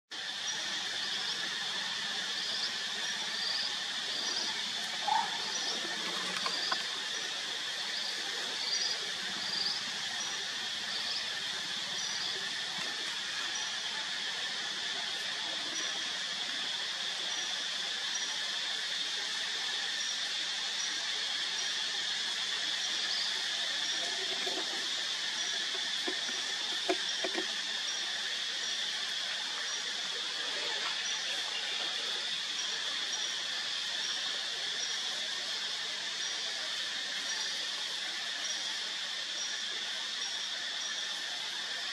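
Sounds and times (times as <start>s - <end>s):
insect drone: 0.1s - 41.9s.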